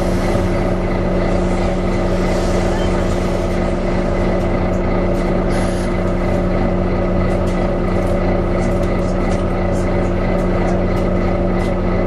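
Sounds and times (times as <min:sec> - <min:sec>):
bus engine rumble: 0:00.0 - 0:12.0
engine cooling fan whirring: 0:00.0 - 0:12.0.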